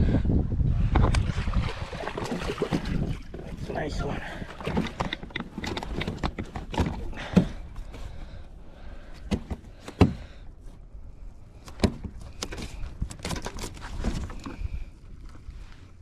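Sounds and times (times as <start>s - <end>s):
knocks and rattles on a kayak: 0.9s - 10.8s, 11.5s - 15.5s.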